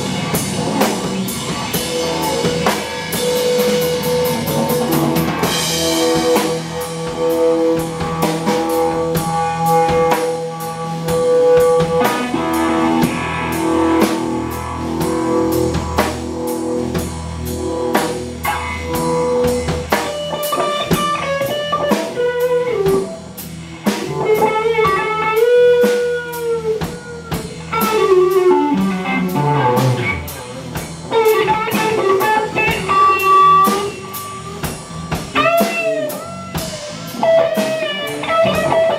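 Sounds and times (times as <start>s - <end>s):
distorted electric guitar lead: 0.0s - 38.9s
drum kit: 0.0s - 38.9s.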